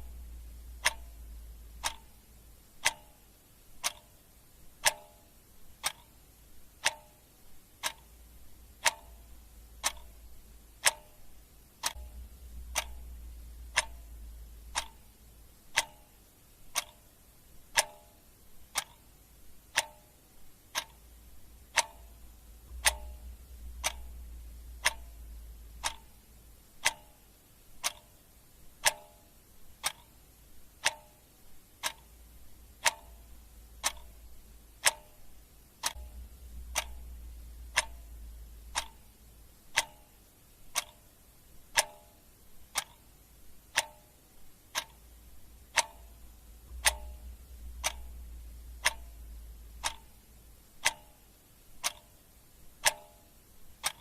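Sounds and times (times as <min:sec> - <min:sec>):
clock ticking: 0:00.0 - 0:54.0
faint low hum: 0:00.0 - 0:54.0.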